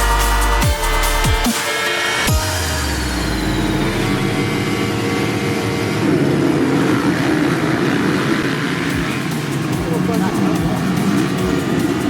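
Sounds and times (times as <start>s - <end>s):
motocross engines running: 2.3s - 12.0s.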